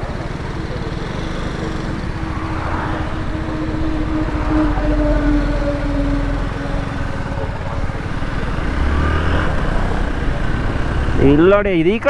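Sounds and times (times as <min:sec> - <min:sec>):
motorcycle engines idling: 0:00.0 - 0:12.0
truck approaching drone: 0:00.0 - 0:12.0.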